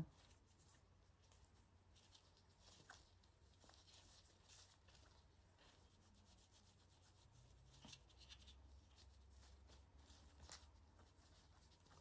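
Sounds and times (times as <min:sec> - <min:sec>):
cloth rubbing on lenses: 0:00.0 - 0:12.0.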